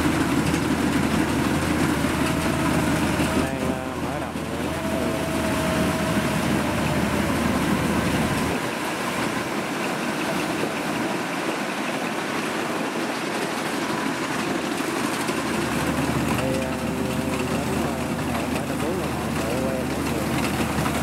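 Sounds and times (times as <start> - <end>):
combine harvester engine running: 0.0 - 21.0
deep low engine hum: 0.0 - 21.0.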